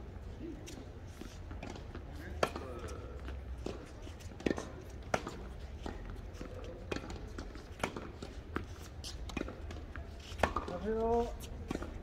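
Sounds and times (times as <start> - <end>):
tennis balls struck and bouncing: 1.5 - 12.0.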